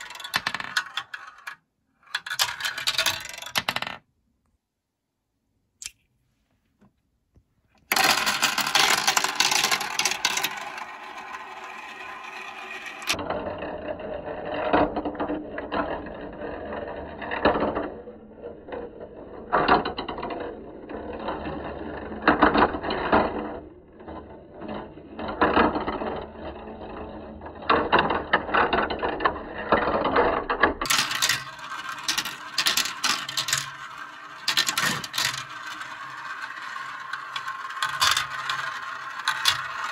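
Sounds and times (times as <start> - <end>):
balls clacking on tracks: 0.0 - 4.0, 7.8 - 39.9
plastic balls rolling in marble run: 0.0 - 4.0, 7.8 - 39.9.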